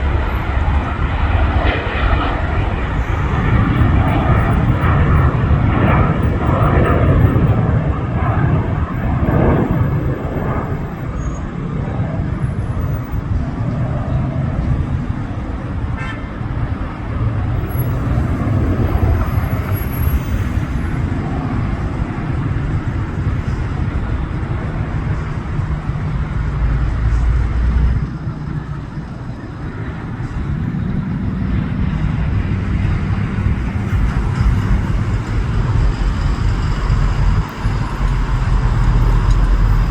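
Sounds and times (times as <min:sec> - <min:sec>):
heavy vehicle passing: 0:00.0 - 0:11.1, 0:17.1 - 0:39.9
road traffic rumble: 0:00.0 - 0:39.9.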